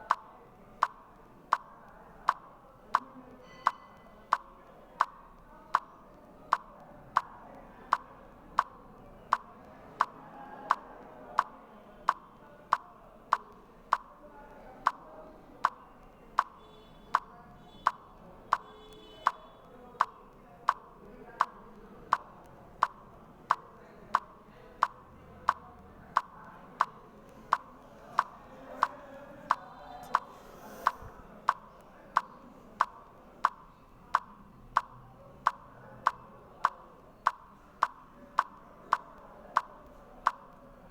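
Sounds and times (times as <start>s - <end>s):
evenly spaced sharp ticks: 0.0s - 40.9s.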